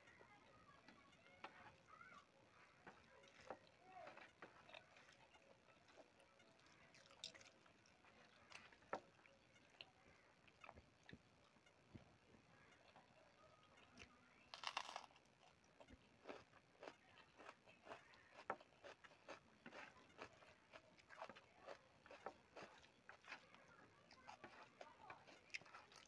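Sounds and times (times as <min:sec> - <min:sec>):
crunch while eating: 0:01.2 - 0:11.2, 0:12.6 - 0:26.0
chewing and smacking mouth sounds: 0:02.5 - 0:11.7, 0:12.7 - 0:26.0.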